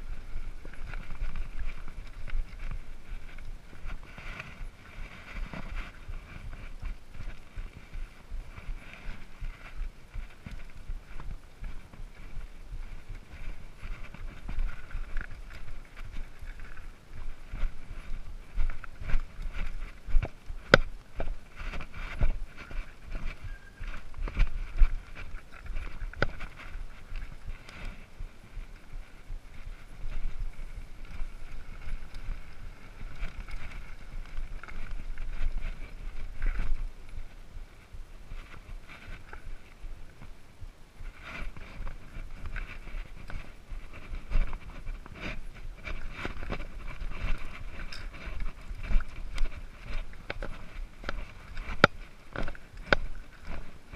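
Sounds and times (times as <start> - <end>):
bike rattling over stones: 0.0 - 37.4, 41.2 - 53.9
steady rumble: 0.0 - 53.9
wind on microphone: 0.0 - 53.9.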